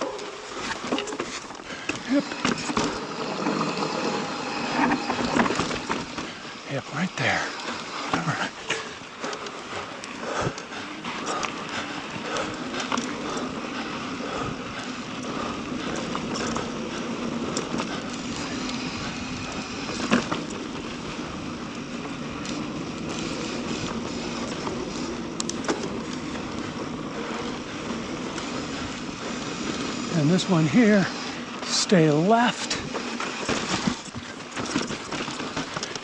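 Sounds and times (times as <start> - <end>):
bike frame rattling: 0.0 - 36.0
bike tyres on dirt trail: 0.0 - 36.0.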